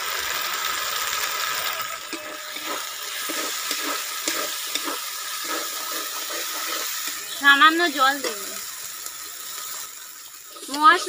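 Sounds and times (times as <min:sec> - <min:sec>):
paste sizzling in oil: 0:00.0 - 0:11.0.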